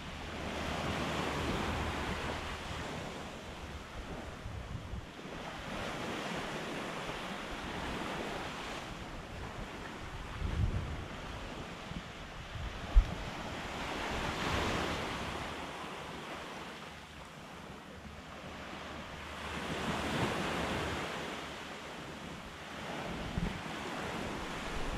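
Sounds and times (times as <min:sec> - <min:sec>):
waves washing onto a beach: 0:00.0 - 0:24.9
wind rumbling on microphone: 0:00.0 - 0:24.9.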